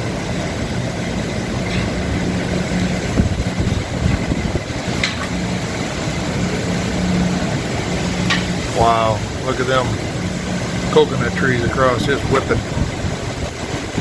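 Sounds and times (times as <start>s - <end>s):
low steady hum: 0.0s - 14.0s
strong wind blowing: 0.0s - 14.0s.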